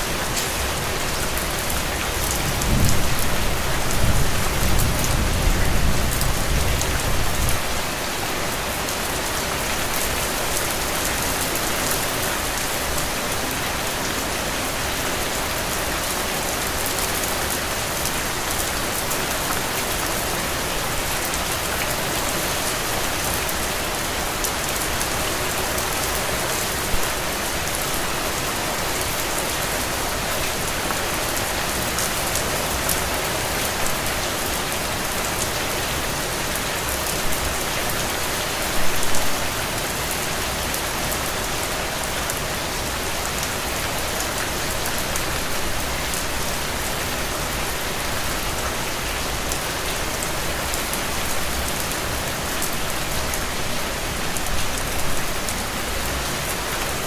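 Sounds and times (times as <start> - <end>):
heavy rain into puddles: 0.0 - 57.0.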